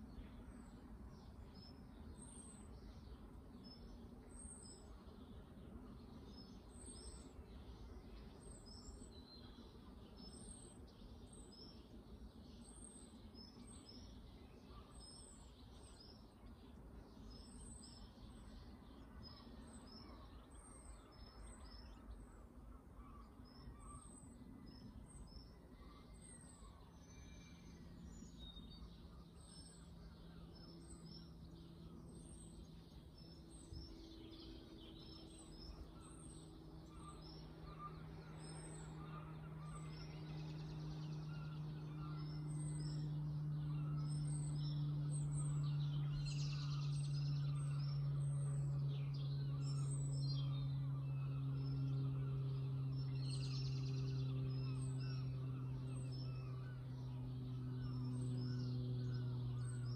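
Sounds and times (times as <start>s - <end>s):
faint low hum: 0.0s - 59.9s
faint outdoor hum: 0.0s - 59.9s.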